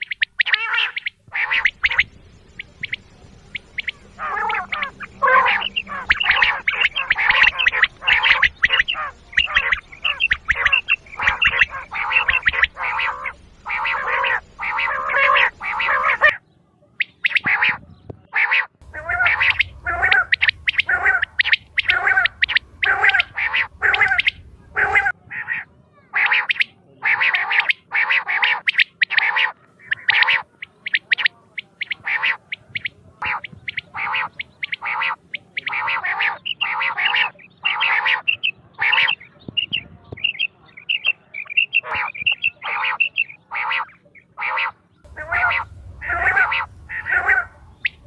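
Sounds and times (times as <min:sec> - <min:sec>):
quail calling: 0:00.0 - 0:48.0.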